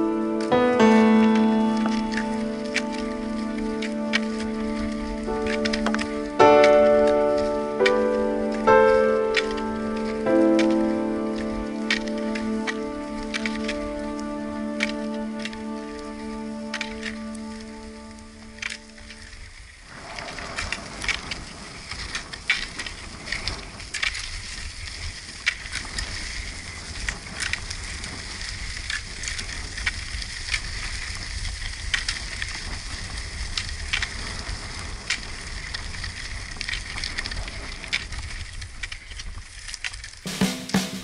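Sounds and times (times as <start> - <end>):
skate wheels crunching on gravel: 0.0 - 41.0
ski pole tips clicking: 1.8 - 14.2, 14.8 - 17.7, 18.6 - 19.7, 20.3 - 40.2.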